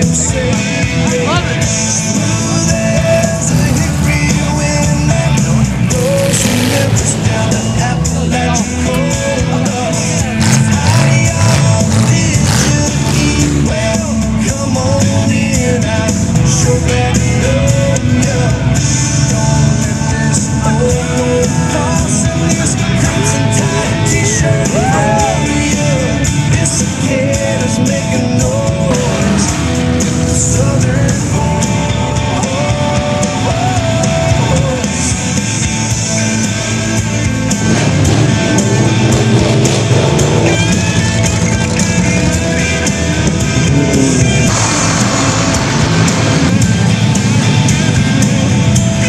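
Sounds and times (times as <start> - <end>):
rock song with singing: 0.0 - 49.0
steady drum beat: 0.0 - 49.0.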